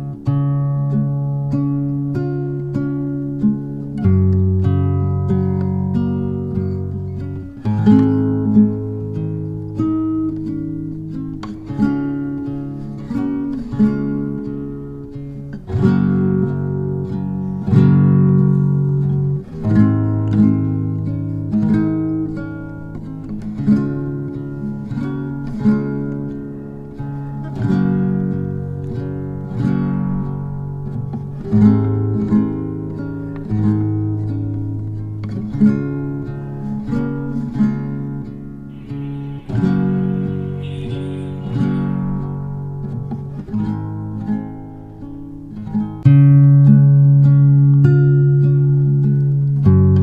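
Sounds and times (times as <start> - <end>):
acoustic guitar music: 0.0 - 50.0.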